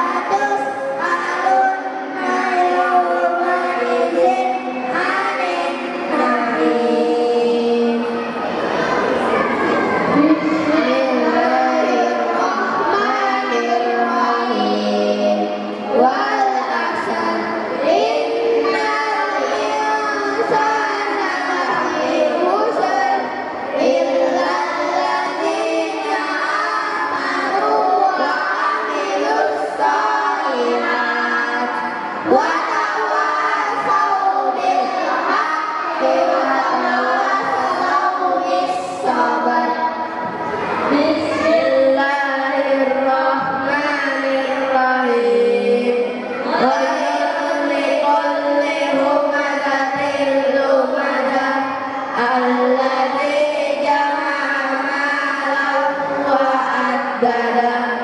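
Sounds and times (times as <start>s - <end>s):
children singing in unison: 0.0s - 58.0s.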